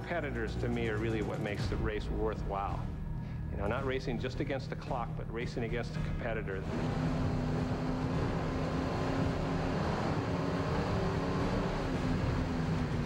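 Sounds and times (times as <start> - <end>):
turbine engine drone: 0.0 - 13.0.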